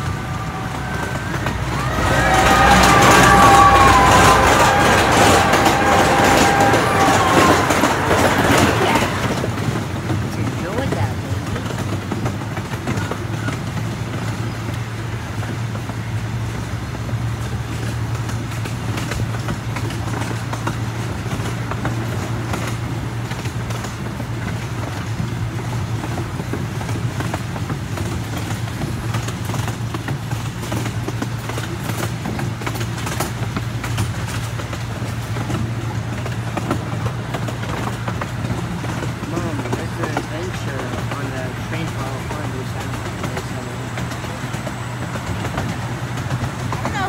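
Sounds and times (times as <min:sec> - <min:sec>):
small train rumbling on track: 0:00.0 - 0:47.0
wheels clicking and rattling: 0:00.0 - 0:47.0.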